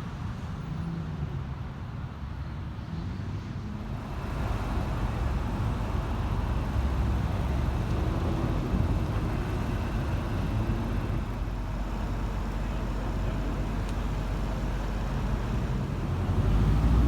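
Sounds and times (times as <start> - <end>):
road traffic rumble: 0.1 - 17.0.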